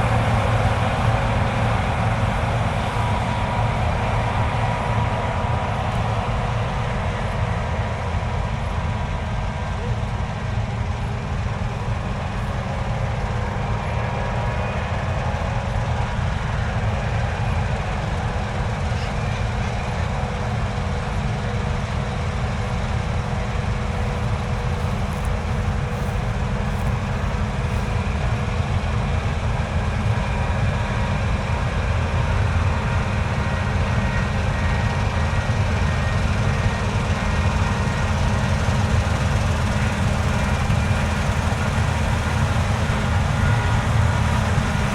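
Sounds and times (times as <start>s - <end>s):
faint steady whine: 0.0s - 44.9s
harvester engine droning: 0.0s - 44.9s.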